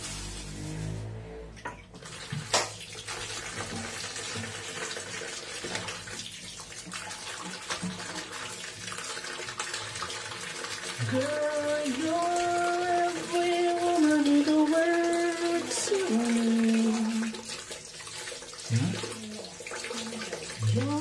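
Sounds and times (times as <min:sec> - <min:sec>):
tap water splashing into basin: 0:01.6 - 0:21.0.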